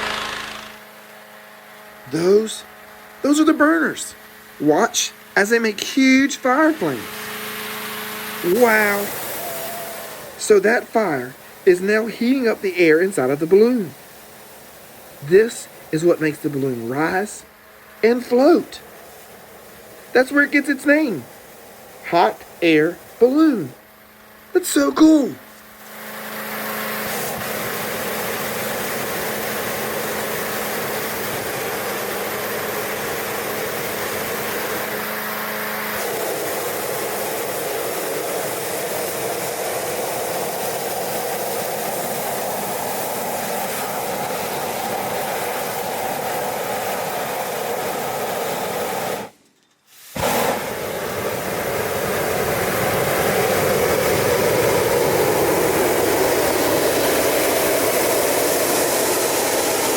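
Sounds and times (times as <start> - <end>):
fan engine hum: 0.0 - 59.9
propane burner roaring: 0.0 - 59.9.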